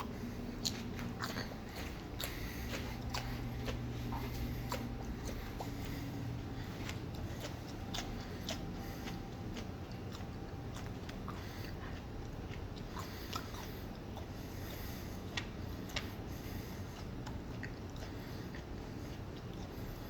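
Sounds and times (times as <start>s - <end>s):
wet mouth clicks: 0.0s - 16.3s
low steady hum: 0.0s - 20.0s
man chewing crunchy food: 0.0s - 20.0s.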